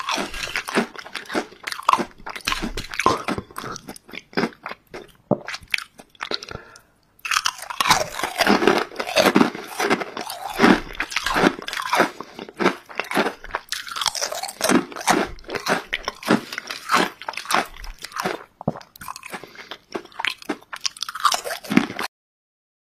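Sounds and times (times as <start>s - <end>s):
chips being chewed crunching: 0.0s - 22.1s.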